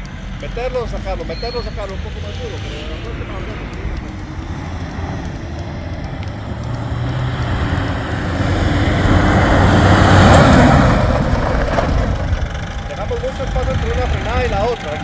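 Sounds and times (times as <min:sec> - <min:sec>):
pickup engine driving: 0:00.0 - 0:15.0
tyres on loose dirt: 0:00.0 - 0:15.0.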